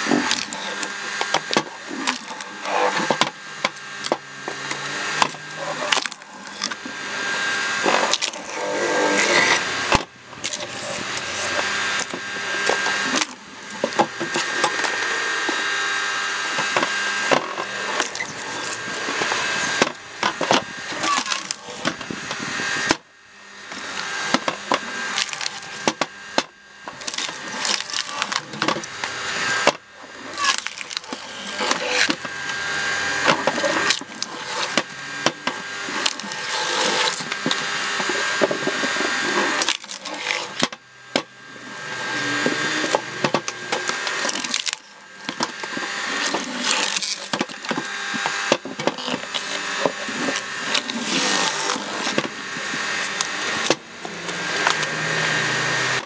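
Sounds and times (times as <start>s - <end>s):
wood cracking and splintering: 0.0s - 41.3s, 42.0s - 56.0s
motor whine: 0.0s - 56.0s.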